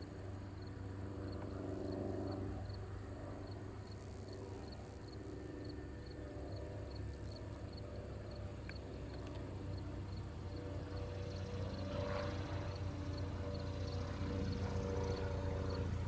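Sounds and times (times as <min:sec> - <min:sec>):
insects chirping: 0:00.0 - 0:16.0
light aircraft engine drone: 0:00.0 - 0:16.0.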